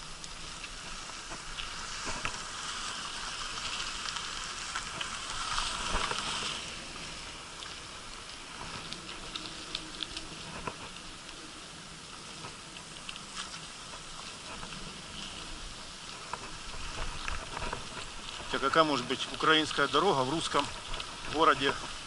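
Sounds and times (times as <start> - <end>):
bicycle clicks and rattles: 0.0 - 22.0
bicycle tyres on rough road: 0.0 - 22.0.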